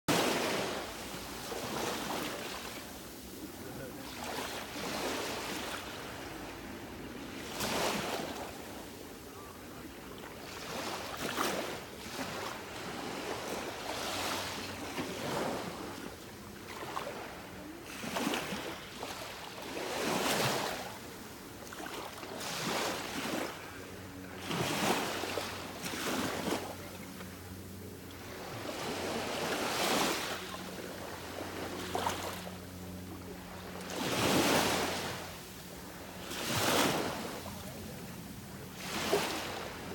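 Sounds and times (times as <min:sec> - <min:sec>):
small waves washing ashore: 0:00.1 - 0:39.9.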